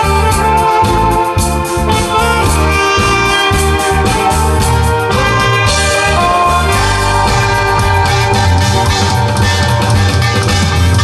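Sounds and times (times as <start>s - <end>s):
bass and drum backing beat: 0.0s - 11.0s
saxophone melody: 0.0s - 11.0s.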